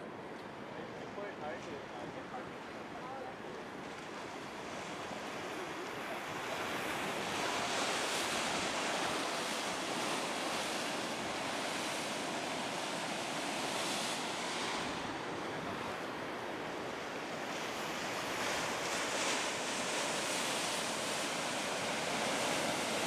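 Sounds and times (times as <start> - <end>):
surf breaking and rushing: 3.7 - 23.0.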